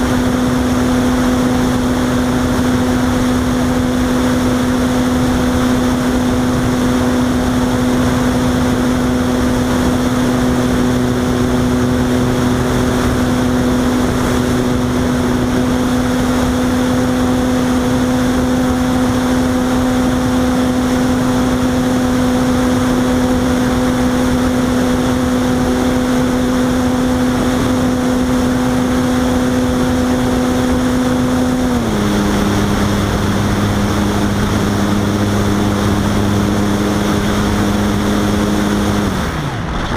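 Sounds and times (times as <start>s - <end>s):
electric motor and propeller humming: 0.0s - 39.9s.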